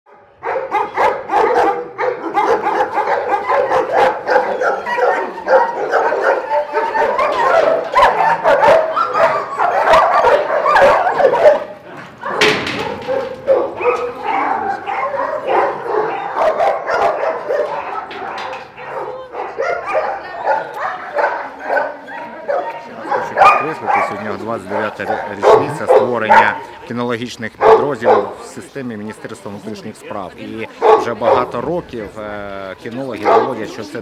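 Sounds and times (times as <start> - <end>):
dogs barking and yelping: 0.1 - 26.9, 27.5 - 28.6, 29.7 - 32.2, 32.9 - 34.0.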